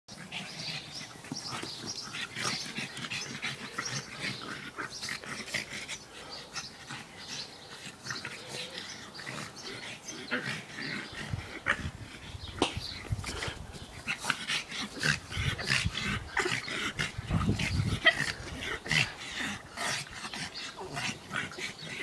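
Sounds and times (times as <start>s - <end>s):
dogs grunting and snorting: 0.1s - 22.0s.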